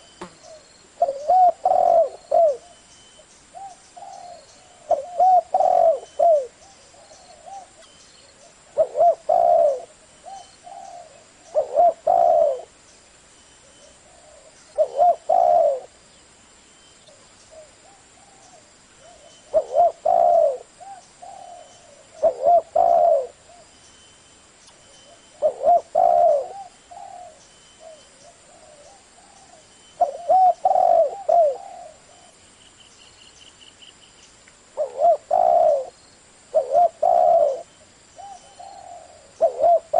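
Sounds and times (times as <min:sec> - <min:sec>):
dove cooing: 0:00.0 - 0:02.8, 0:03.5 - 0:07.8, 0:08.4 - 0:12.8, 0:13.6 - 0:16.0, 0:17.5 - 0:23.7, 0:25.1 - 0:32.4, 0:34.8 - 0:39.9.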